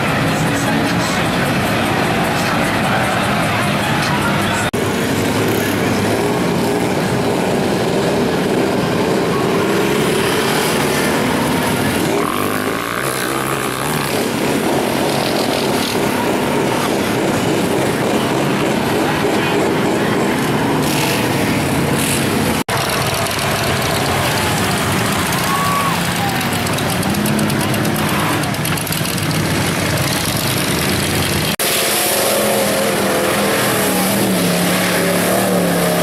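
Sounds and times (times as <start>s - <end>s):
off-road vehicle engines droning: 0.0s - 36.0s.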